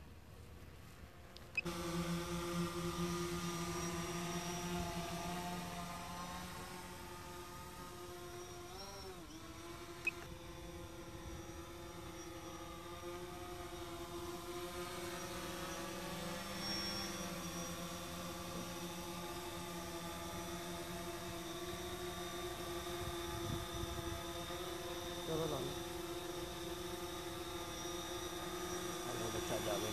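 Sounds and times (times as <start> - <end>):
drone propellers whining: 1.4 - 29.9.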